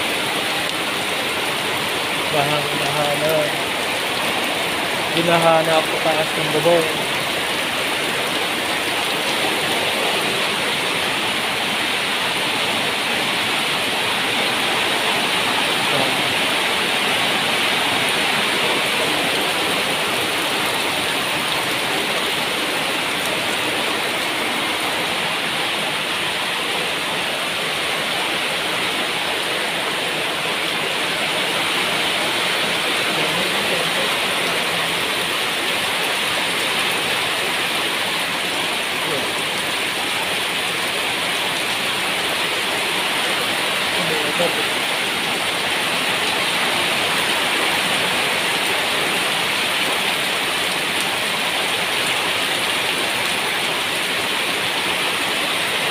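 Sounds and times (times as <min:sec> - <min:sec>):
heavy rain on metal roof: 0:00.0 - 0:55.9.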